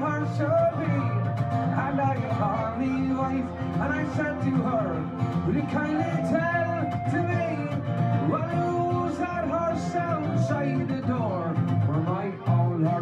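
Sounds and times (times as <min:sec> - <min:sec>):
acoustic guitar accompaniment: 0:00.0 - 0:13.0
fiddle playing sliding notes: 0:00.0 - 0:13.0.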